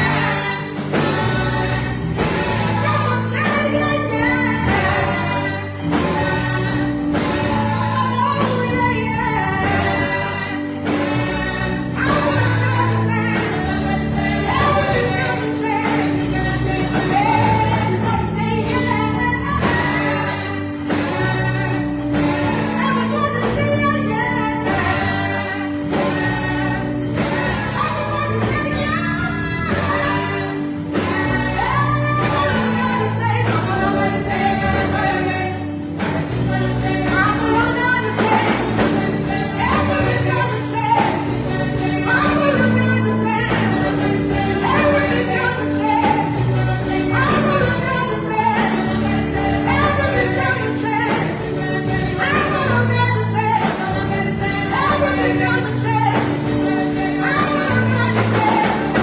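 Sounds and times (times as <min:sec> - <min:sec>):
gospel choir singing over a beat: 0:00.0 - 0:59.0.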